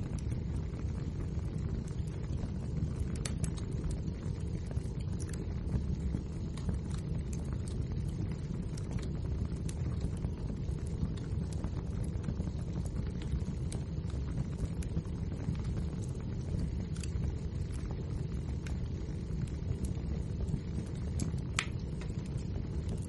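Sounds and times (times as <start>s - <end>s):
low rumble: 0.0s - 23.0s
wood fire crackling and popping: 0.0s - 23.0s.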